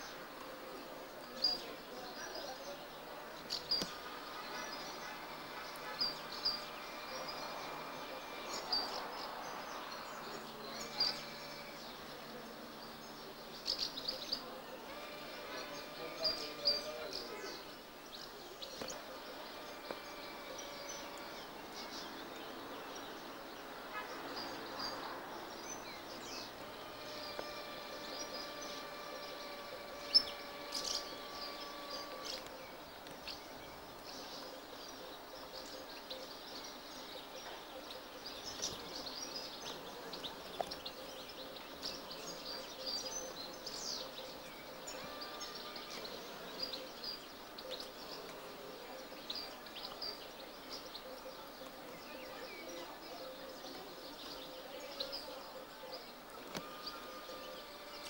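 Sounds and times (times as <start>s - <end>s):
faint steady tones: 0.0s - 58.0s
small birds chirping: 0.0s - 58.0s.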